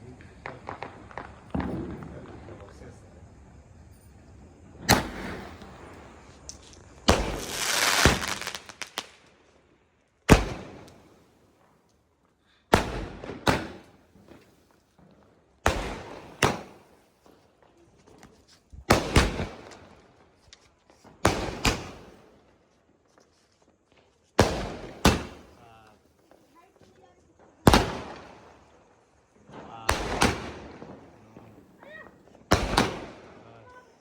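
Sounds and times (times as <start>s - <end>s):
firework bangs and bursts: 0.0s - 9.6s, 10.2s - 11.9s, 12.7s - 20.4s, 21.0s - 23.1s, 23.8s - 34.0s
firework crackling hiss: 0.0s - 34.0s.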